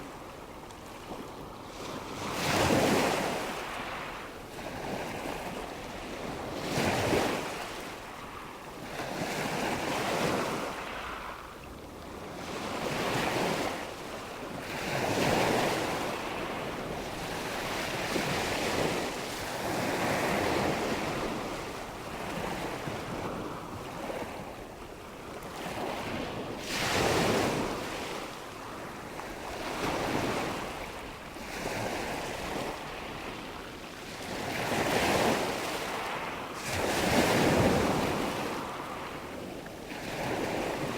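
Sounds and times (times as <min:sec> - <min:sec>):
wind: 0:00.0 - 0:40.9.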